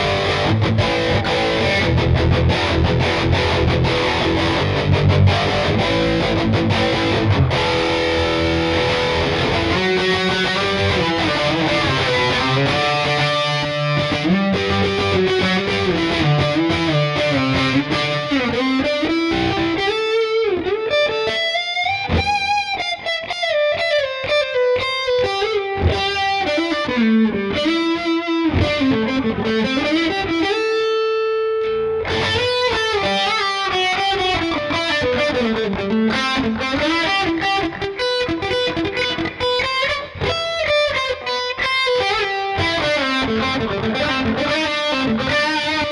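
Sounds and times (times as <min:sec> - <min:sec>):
distorted electric guitar solo: 0:00.0 - 0:45.9.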